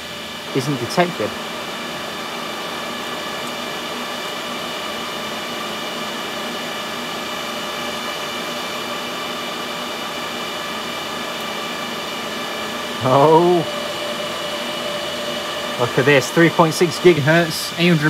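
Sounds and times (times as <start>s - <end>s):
server cooling fans whining: 0.0s - 18.0s.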